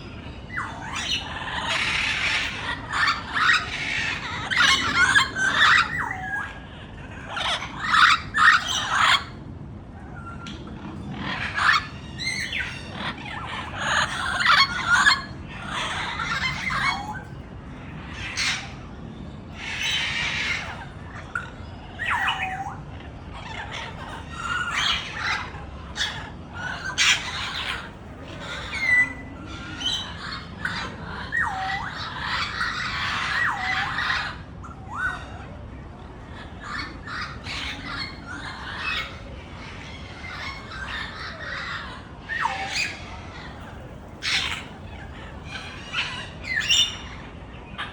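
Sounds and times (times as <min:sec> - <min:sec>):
parrots squawking: 0:00.4 - 0:09.4, 0:11.0 - 0:18.8, 0:19.6 - 0:35.4, 0:36.1 - 0:47.9.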